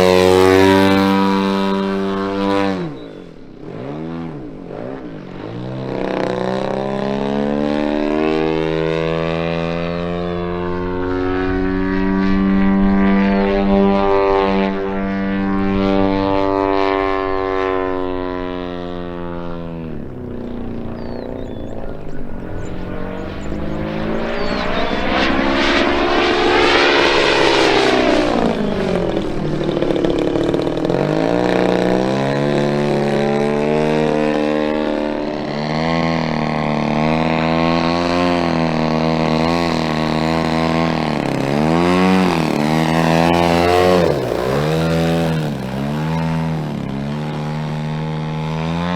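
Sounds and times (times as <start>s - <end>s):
model plane engine and propeller: 0.0s - 48.9s.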